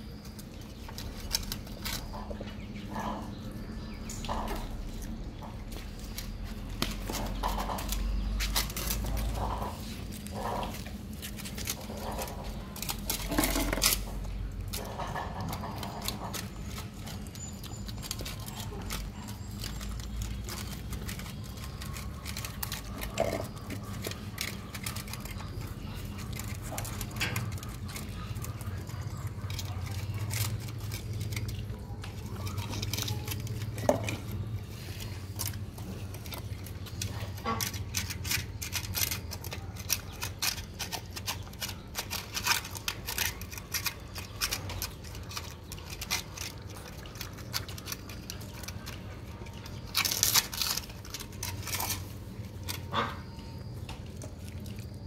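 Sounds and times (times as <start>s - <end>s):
puppies sucking and smacking: 0.0s - 55.0s.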